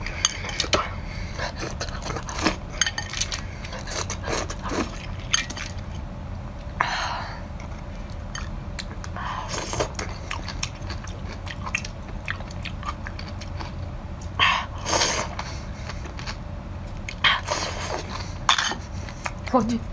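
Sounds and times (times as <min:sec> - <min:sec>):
person chewing snails: 0:00.0 - 0:05.9, 0:07.6 - 0:13.8, 0:14.6 - 0:16.4, 0:17.0 - 0:19.5
low hum: 0:00.0 - 0:19.9.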